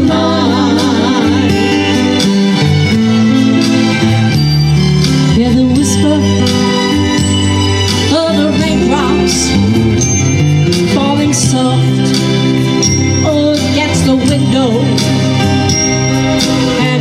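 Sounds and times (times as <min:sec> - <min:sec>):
country ballad with guitar: 0:00.0 - 0:17.0.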